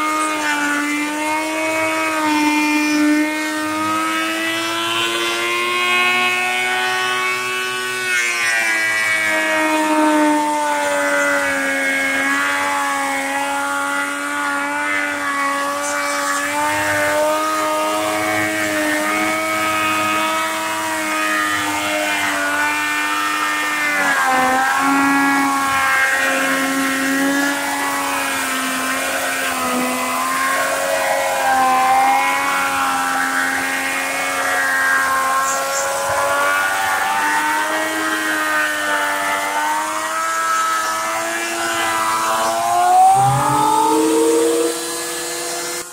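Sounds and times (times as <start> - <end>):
thickness planer whining: 0.0 - 45.9.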